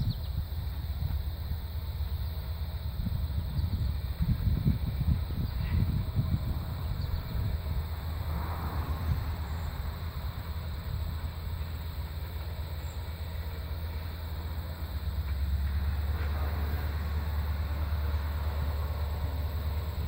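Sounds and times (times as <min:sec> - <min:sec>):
distant train engine and wheel rumble: 0:00.0 - 0:20.0.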